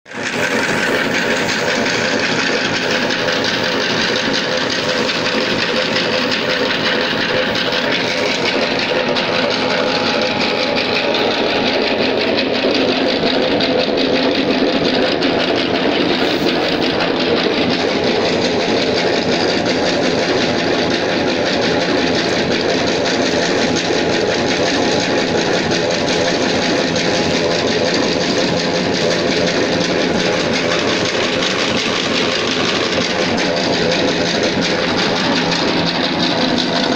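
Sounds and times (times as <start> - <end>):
oil press machine running: 0.0 - 36.9.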